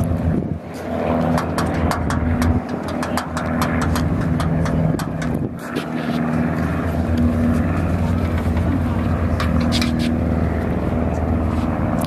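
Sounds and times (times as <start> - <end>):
engine idling: 1.2 - 12.0.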